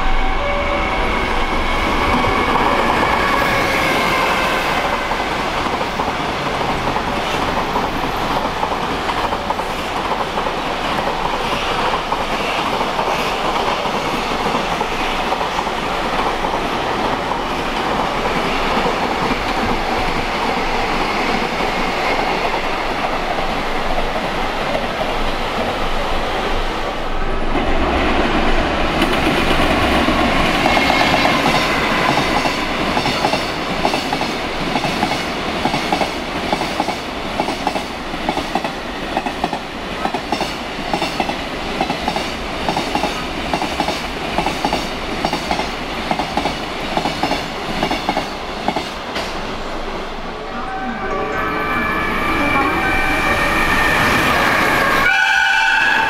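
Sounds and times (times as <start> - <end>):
freight train rail rumble: 0.0 - 56.0.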